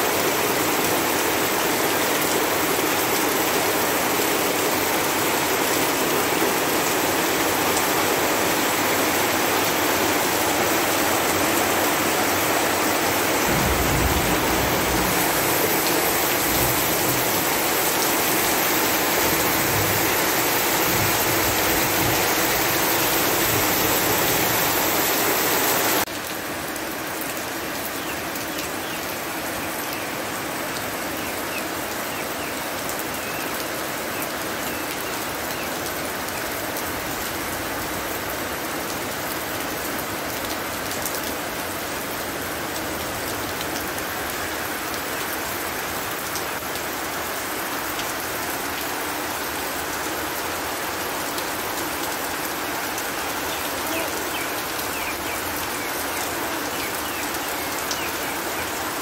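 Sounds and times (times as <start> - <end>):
raindrops striking water: 0.0 - 30.0, 30.7 - 59.0
heavy rain falling: 0.0 - 59.0.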